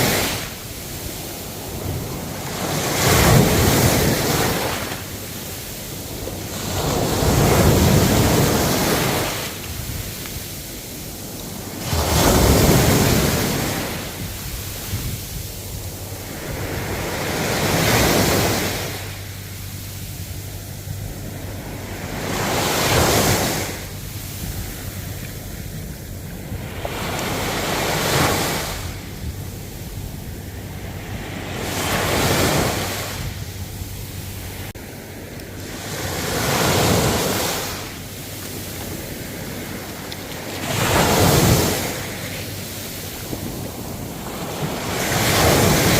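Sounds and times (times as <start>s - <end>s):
ocean waves breaking: 0.0s - 45.9s.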